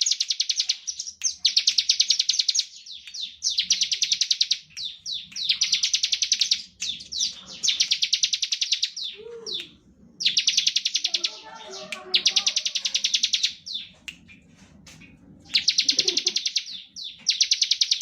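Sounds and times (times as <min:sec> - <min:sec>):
bird singing high trills: 0:00.0 - 0:13.9, 0:15.5 - 0:18.0.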